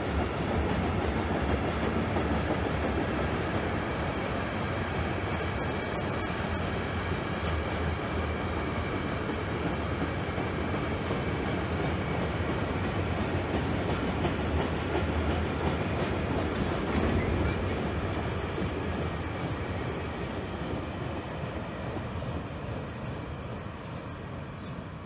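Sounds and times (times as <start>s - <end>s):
freight train wheels on track: 0.0s - 25.0s.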